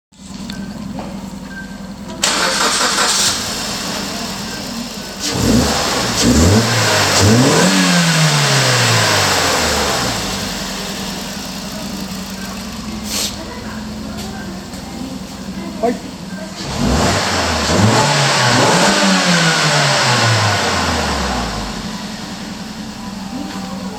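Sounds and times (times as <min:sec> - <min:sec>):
car engine idling and revving: 0:00.2 - 0:23.9.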